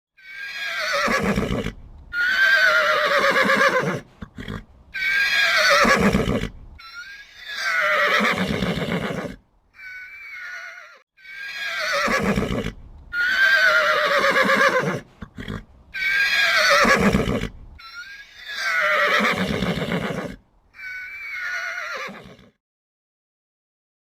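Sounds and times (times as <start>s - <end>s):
horse whinnying: 0.2s - 22.6s.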